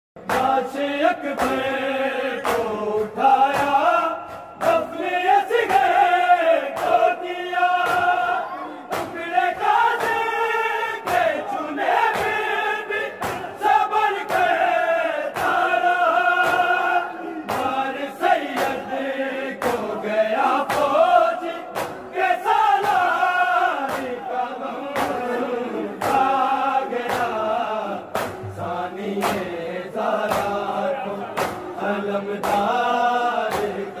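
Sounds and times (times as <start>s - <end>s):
chorus backing vocals: 0.2s - 34.0s
man chanting a lament: 0.4s - 34.0s.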